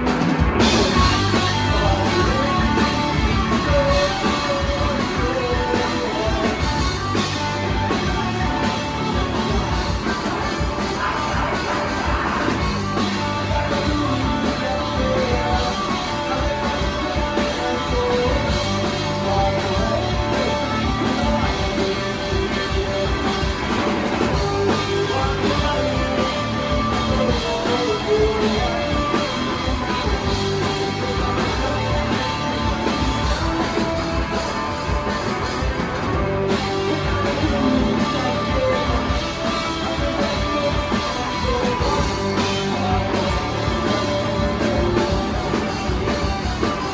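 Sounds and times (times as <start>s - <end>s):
bass: 0.0s - 46.9s
drums: 0.0s - 46.9s
electric guitars: 0.0s - 46.9s.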